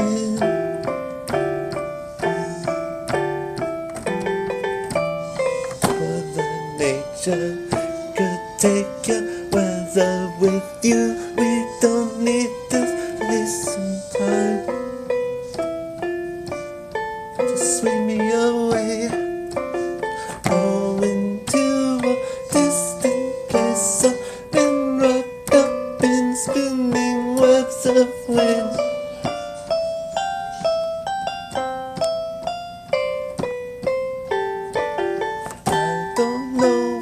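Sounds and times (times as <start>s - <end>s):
keyboard playing plucked notes: 0.0s - 37.0s.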